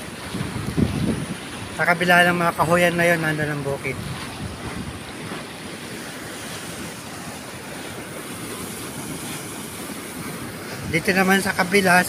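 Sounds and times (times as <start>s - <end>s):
fast-flowing water rushing: 0.0s - 12.0s
wind buffeting microphone: 0.0s - 12.0s.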